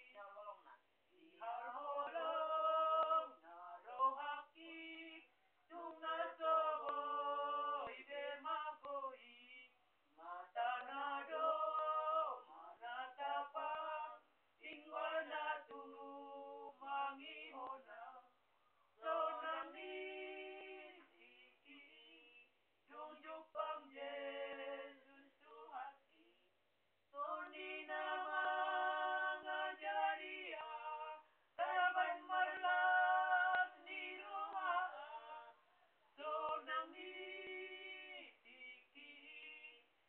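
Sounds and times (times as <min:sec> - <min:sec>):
group singing hymn unaccompanied: 0:00.0 - 0:09.6, 0:10.2 - 0:18.2, 0:19.0 - 0:26.4, 0:27.1 - 0:39.8.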